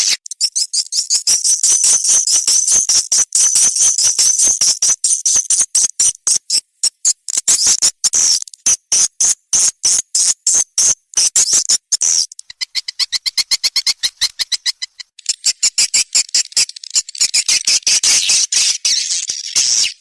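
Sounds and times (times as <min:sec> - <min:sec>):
swiftlet twittering chirps: 0:00.0 - 0:08.4, 0:09.0 - 0:20.0.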